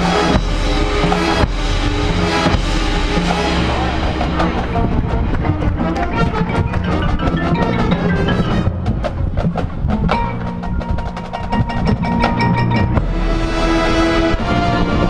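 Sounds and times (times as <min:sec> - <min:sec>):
sharp drum and mallet hits: 0:00.0 - 0:14.2
marching band music: 0:00.0 - 0:15.0.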